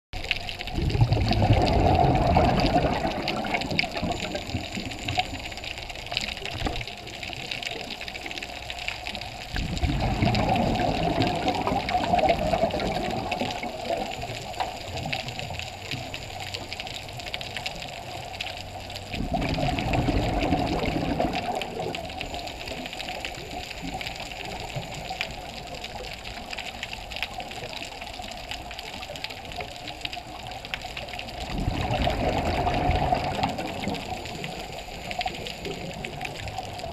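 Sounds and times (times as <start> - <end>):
underwater exhaled bubbles: 0.2 - 36.9.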